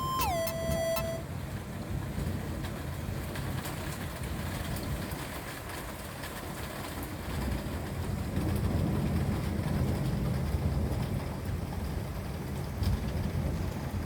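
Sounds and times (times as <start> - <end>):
low rumble of thunder: 2.3 - 14.0
rain falling: 2.4 - 14.0.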